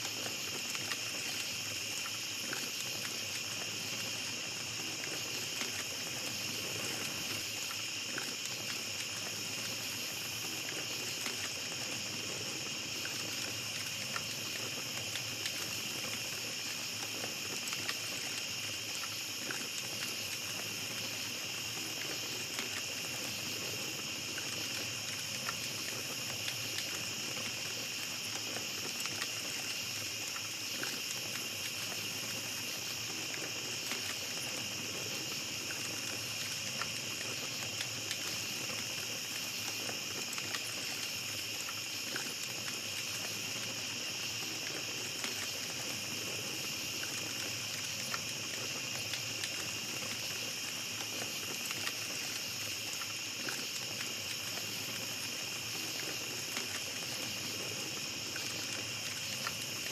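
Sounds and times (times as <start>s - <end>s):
campfire crackling: 0.0s - 59.9s
night insects chorus: 0.0s - 59.9s.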